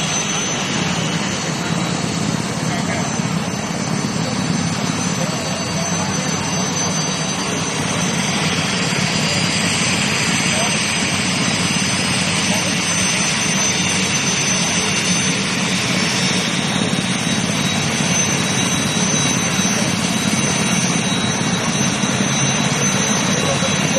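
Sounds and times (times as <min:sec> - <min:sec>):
helicopter turbine engine whine: 0:00.0 - 0:23.9.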